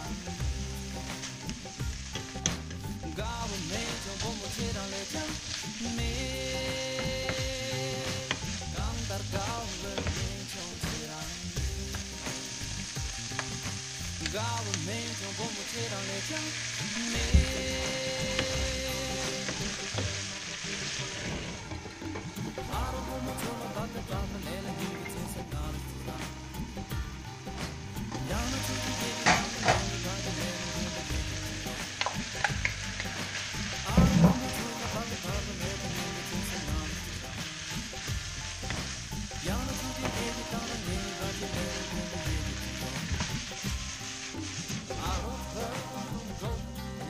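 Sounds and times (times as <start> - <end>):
mushrooms sizzling in oil: 0.0 - 47.0.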